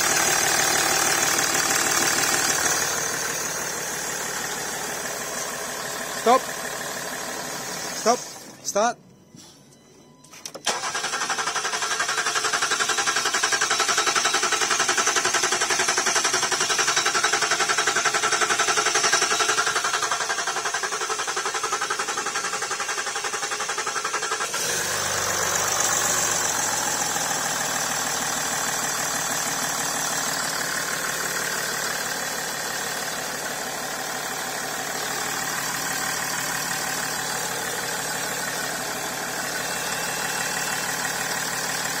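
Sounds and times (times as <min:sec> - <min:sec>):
car engine running: 0:00.0 - 0:08.6, 0:10.7 - 0:42.0
car engine idling: 0:00.0 - 0:08.8, 0:10.7 - 0:42.0.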